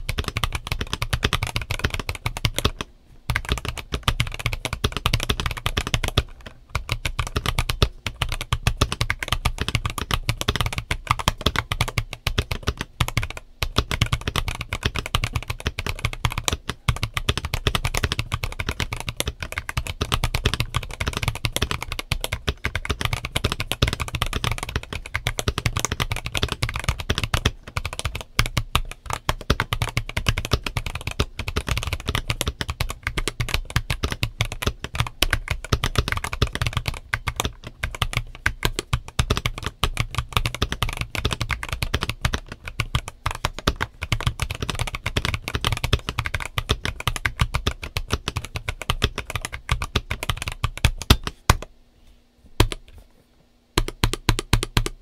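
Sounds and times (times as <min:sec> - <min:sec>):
fast keyboard typing: 0:00.0 - 0:51.7, 0:52.6 - 0:52.8, 0:53.8 - 0:55.0.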